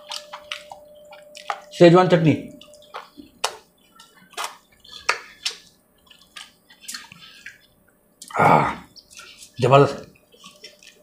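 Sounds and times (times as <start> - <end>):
wet chewing and lip-smacking: 0.0 - 1.8, 2.6 - 11.0.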